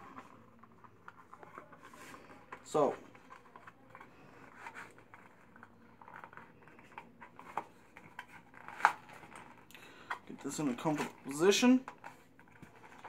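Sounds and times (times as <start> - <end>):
plastic scraping against cloth: 0.0 - 13.0.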